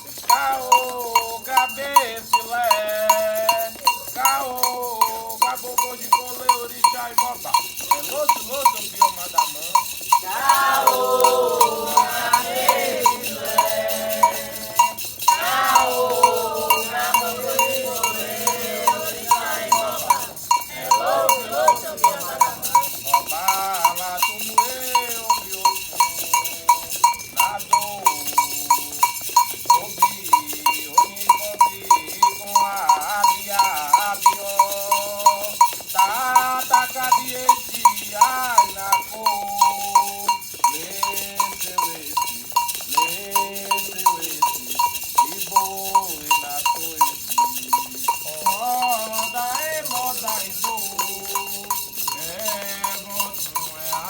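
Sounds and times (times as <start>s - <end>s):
bell struck in rhythm: 0.0s - 54.0s
voices singing a chant: 0.0s - 54.0s.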